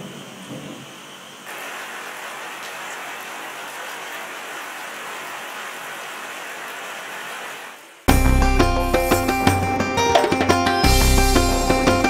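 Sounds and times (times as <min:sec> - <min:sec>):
heavy rain hiss: 0:00.0 - 0:12.0.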